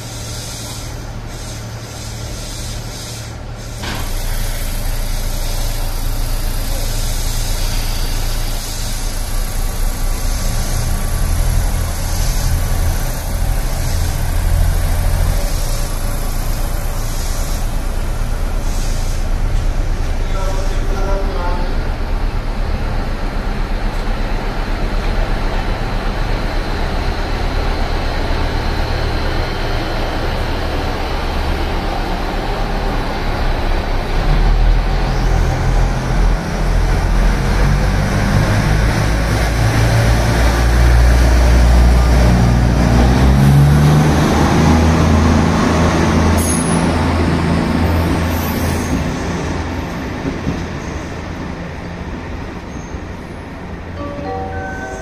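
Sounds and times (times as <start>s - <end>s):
diesel train engine drone: 0.0s - 55.0s.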